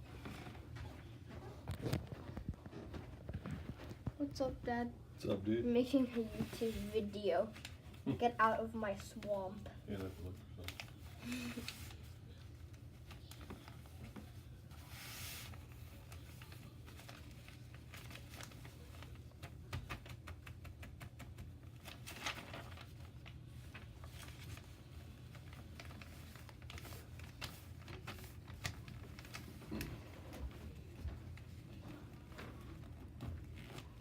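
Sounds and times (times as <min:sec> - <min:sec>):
paper crinkling and folding: 0:00.0 - 0:04.2, 0:05.9 - 0:08.2, 0:08.9 - 0:34.0
faint low hum: 0:00.0 - 0:34.0.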